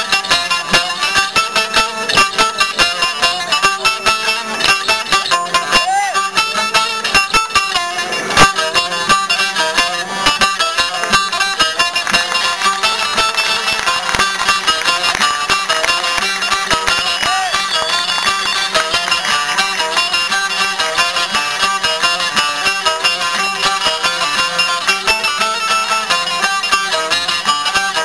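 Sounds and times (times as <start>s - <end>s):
plucked lute folk dance tune: 0.0s - 28.0s.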